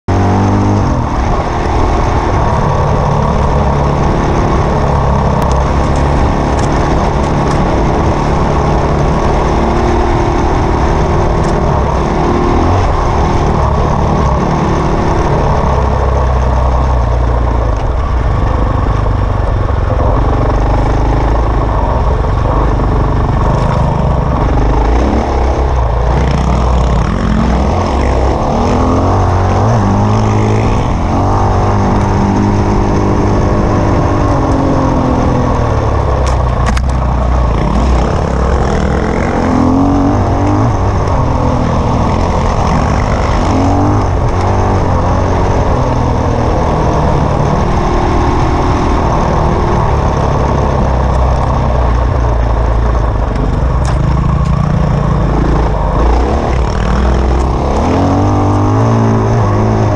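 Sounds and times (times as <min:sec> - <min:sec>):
dirt bike engine revving: 0:00.1 - 0:59.9.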